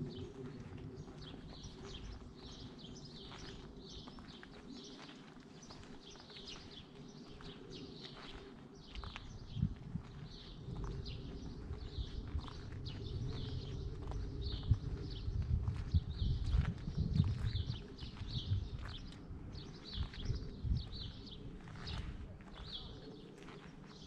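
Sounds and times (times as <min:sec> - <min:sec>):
small birds chirping and singing: 0:00.0 - 0:24.0.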